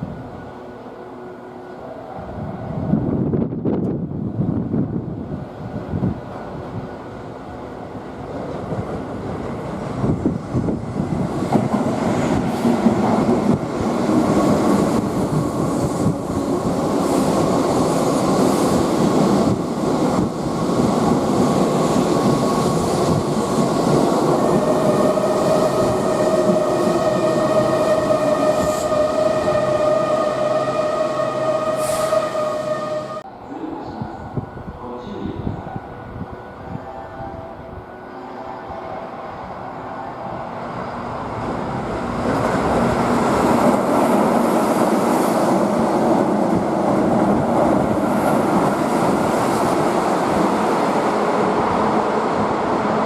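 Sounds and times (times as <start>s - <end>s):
electric train rumbling: 0.0s - 53.0s
high-pitched train whine: 9.0s - 53.0s.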